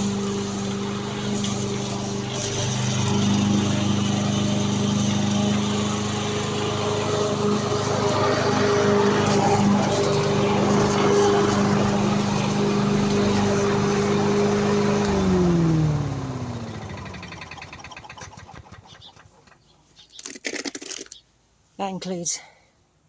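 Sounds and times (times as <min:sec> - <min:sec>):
engine spinning down: 0:00.0 - 0:19.8
lawn mower engine running: 0:00.0 - 0:20.0.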